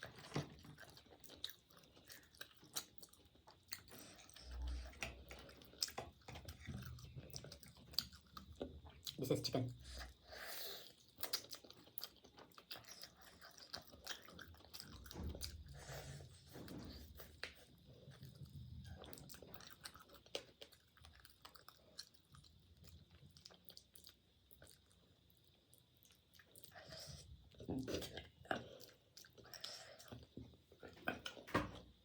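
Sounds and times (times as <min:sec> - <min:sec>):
chewing and crunching food: 0:00.0 - 0:32.0.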